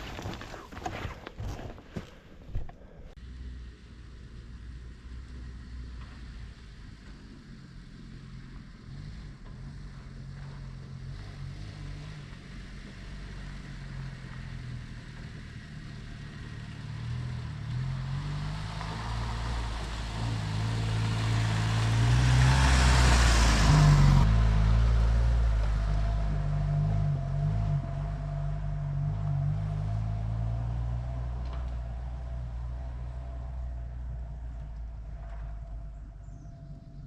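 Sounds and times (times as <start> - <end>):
car engine driving: 0.0 - 37.0.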